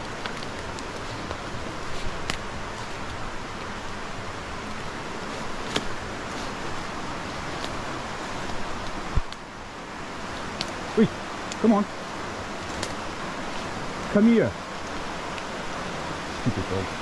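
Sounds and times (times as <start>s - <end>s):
rain hissing in woodland: 0.0s - 17.0s.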